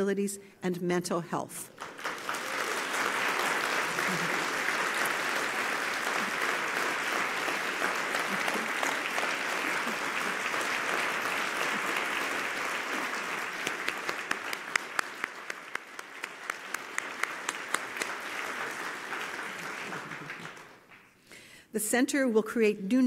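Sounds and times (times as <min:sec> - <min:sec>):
audience applauding: 0:01.8 - 0:21.2.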